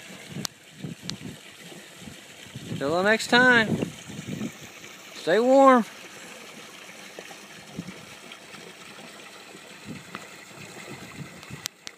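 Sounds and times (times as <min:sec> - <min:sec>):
creek water flowing: 0:00.0 - 0:11.9
low water gurgles: 0:00.0 - 0:11.9.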